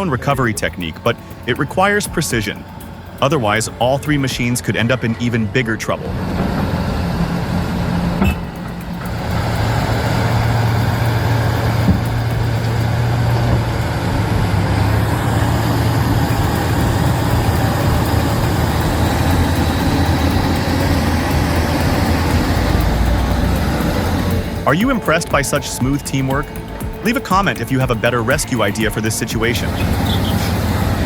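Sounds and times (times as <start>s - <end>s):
heavy diesel engines droning: 0.0s - 31.0s.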